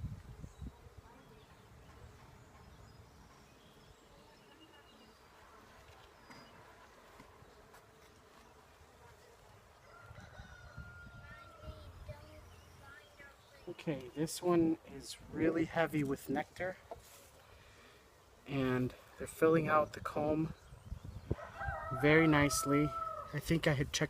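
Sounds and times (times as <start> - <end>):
bees buzzing: 0.0 - 23.5.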